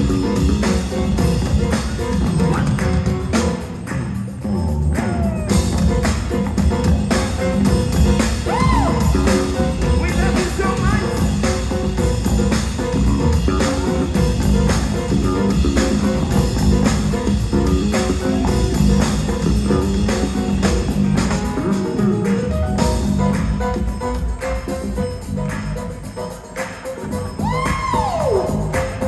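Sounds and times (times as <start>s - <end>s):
bass and drums: 0.0s - 26.3s, 27.0s - 29.0s.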